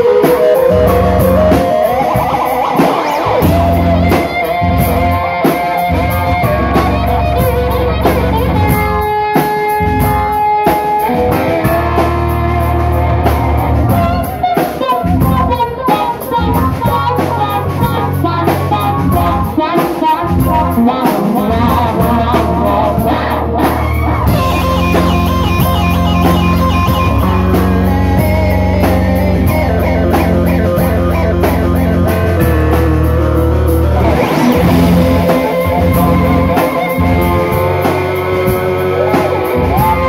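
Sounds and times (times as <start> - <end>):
bass line: 0.0 - 40.0
drum kit with cymbals: 0.0 - 40.0
electric guitar: 0.0 - 40.0.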